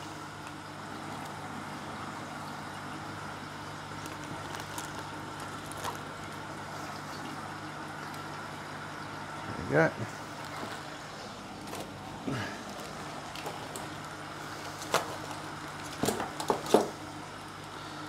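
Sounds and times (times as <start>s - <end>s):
low electrical hum with hiss: 0.0s - 18.0s.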